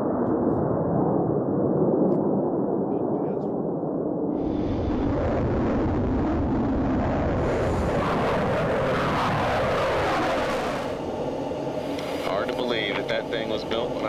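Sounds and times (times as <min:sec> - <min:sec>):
fighter jet engine whine: 0:00.0 - 0:14.0.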